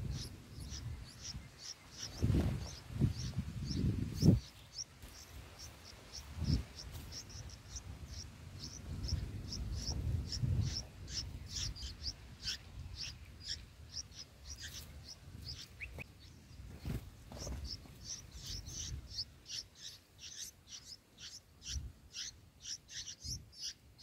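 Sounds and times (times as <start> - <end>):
nestlings chirping: 0.0 - 24.0.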